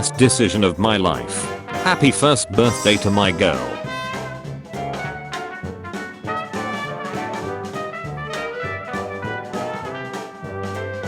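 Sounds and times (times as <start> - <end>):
brass jazz music: 0.0 - 11.0.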